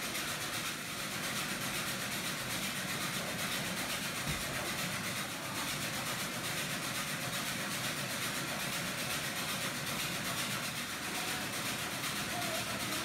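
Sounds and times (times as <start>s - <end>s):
machine whirring: 0.3s - 13.0s.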